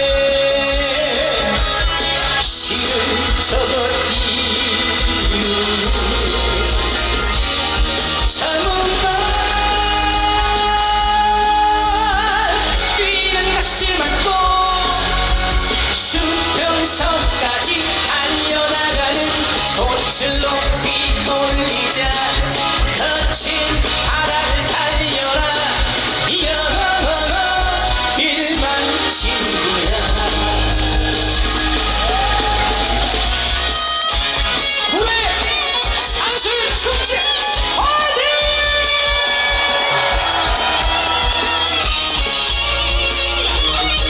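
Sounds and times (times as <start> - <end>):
man singing: 0.0 - 7.2, 8.1 - 31.1, 34.9 - 40.3
rock backing track: 0.0 - 44.0.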